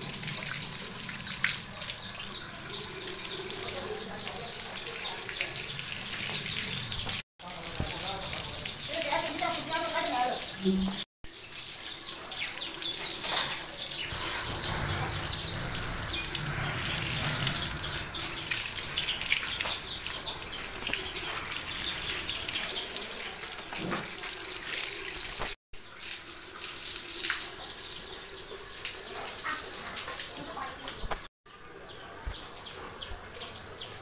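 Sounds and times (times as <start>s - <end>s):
hose water splashing on motorcycle: 0.0s - 31.3s.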